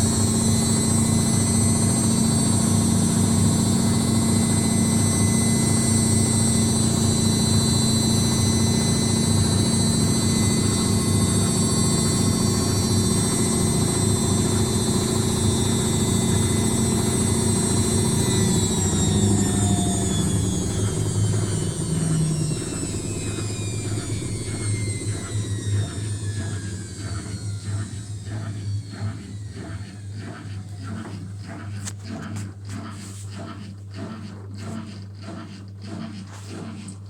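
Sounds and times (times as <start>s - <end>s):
washing machine motor whine: 0.0s - 37.0s.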